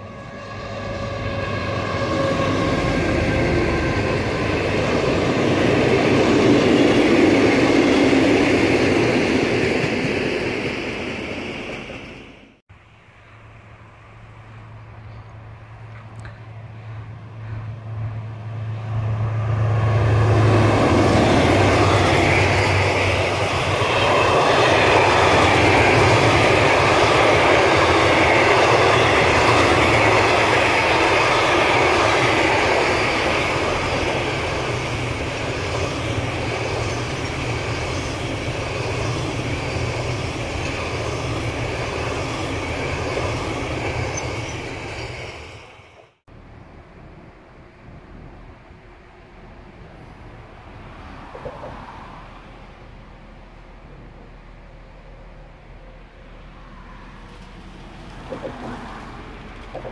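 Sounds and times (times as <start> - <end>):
train wheels rumbling on rail: 0.0 - 12.6, 14.0 - 59.9
diesel locomotive engine drone: 0.0 - 59.9.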